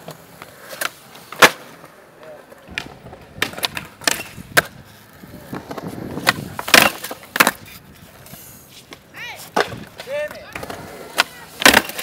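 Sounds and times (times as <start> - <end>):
skateboard clacking: 0.0 - 12.0
skateboard trucks grinding concrete: 0.0 - 12.0
skateboard wheels rolling: 0.0 - 12.0.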